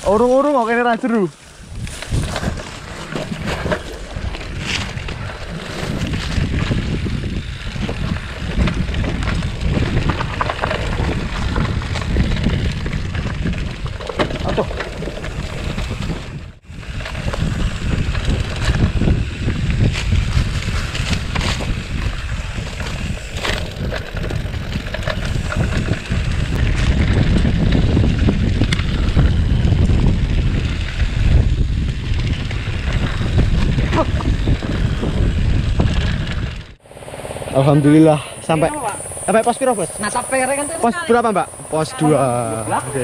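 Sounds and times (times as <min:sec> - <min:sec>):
wind buffeting microphone: 0:00.0 - 0:43.0
bicycle clicks and rattles: 0:01.5 - 0:36.8.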